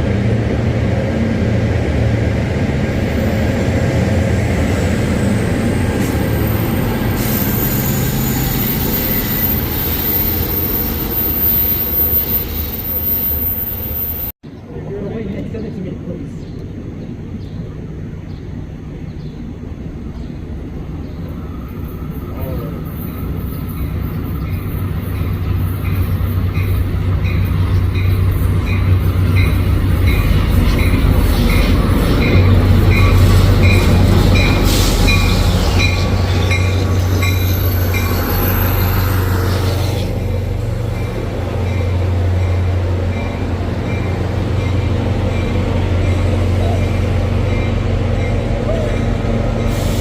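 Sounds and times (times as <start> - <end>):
train rumbling: 0.0 - 50.0.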